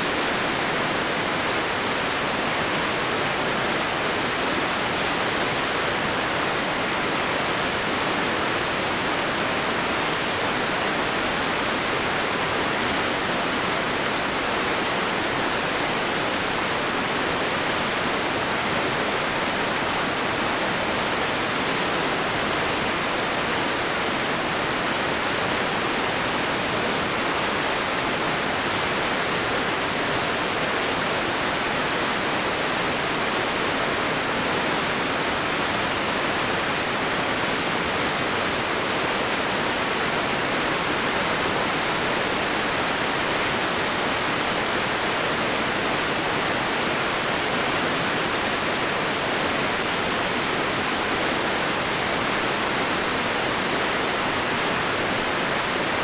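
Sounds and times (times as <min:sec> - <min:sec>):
river water rushing over rocks: 0:00.0 - 0:56.0.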